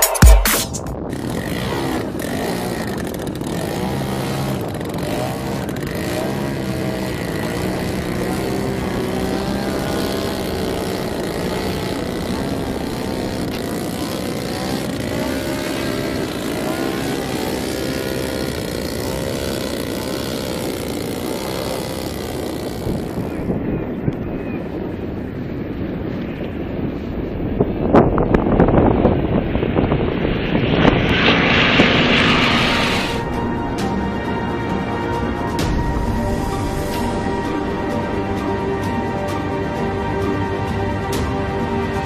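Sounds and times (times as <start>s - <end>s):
propeller aircraft engine running: 0.0s - 42.0s
steady rushing noise: 0.0s - 42.0s.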